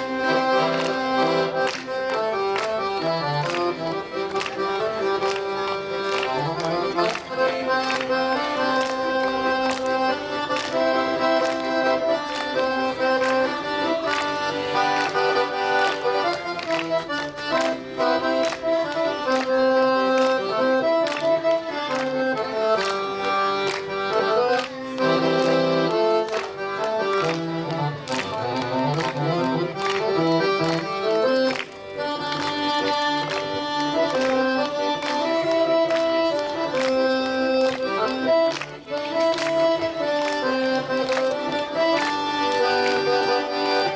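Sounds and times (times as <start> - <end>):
accordion melody over a beat: 0.0 - 43.9.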